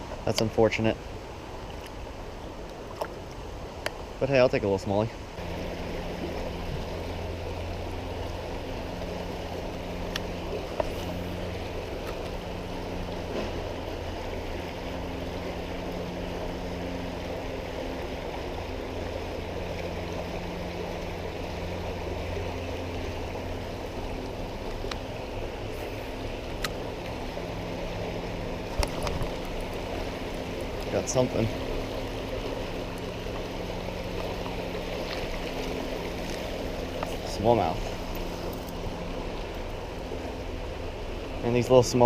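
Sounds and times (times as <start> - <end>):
creek water rushing: 0.0 - 42.0
low hum: 5.1 - 42.0.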